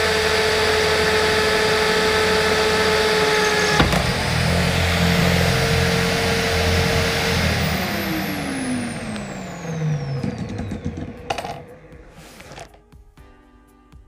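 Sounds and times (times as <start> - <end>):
electric drill motor whine: 0.0 - 12.8.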